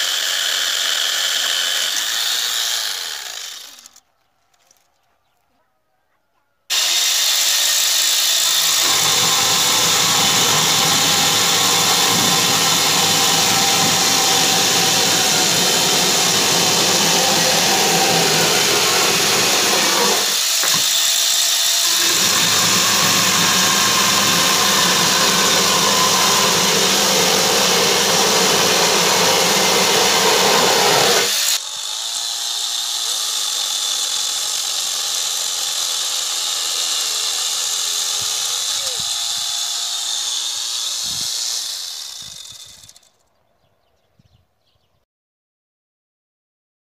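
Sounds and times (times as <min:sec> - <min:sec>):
power tool chain cutting wood: 0:00.0 - 0:04.8, 0:06.7 - 0:43.2.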